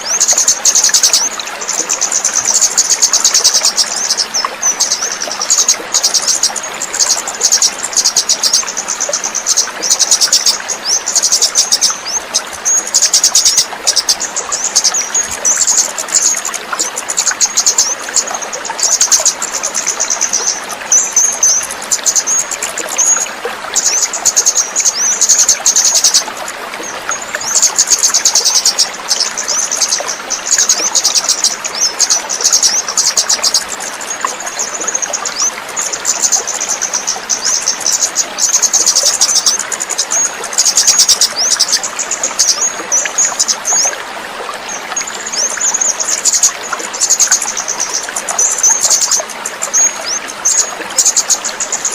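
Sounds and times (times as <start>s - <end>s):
trickling water: 0.0s - 51.9s.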